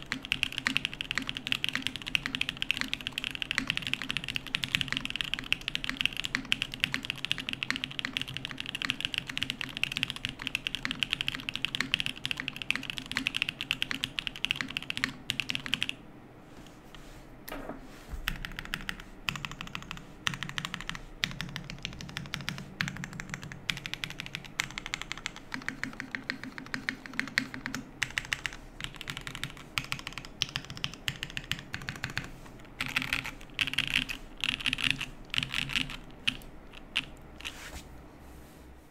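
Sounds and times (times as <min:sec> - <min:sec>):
fast typing on mechanical keyboard: 0:00.0 - 0:16.0, 0:18.3 - 0:37.5.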